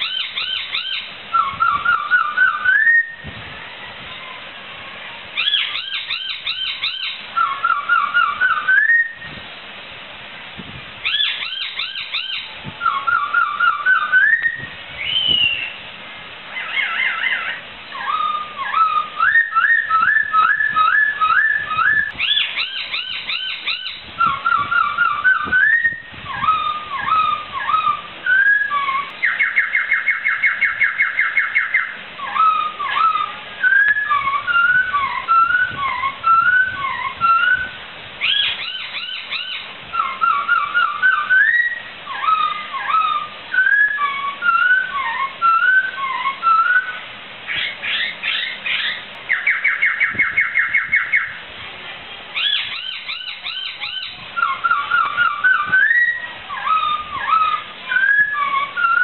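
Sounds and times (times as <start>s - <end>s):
bird singing whistled phrases: 0.0s - 3.3s, 5.4s - 9.3s, 11.0s - 15.9s, 16.6s - 51.4s, 52.4s - 59.0s.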